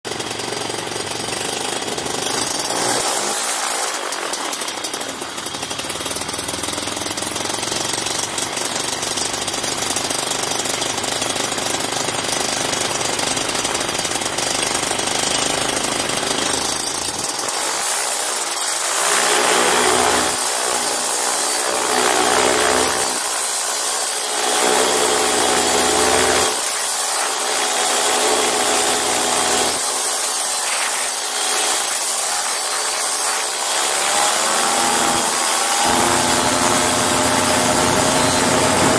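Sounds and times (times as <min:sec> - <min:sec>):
small two-stroke engine revving: 0:00.1 - 0:38.9.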